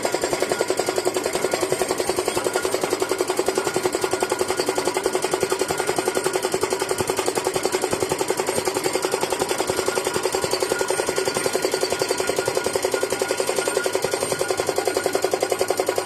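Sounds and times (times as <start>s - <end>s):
pile driver hammer striking: 0.0s - 16.0s.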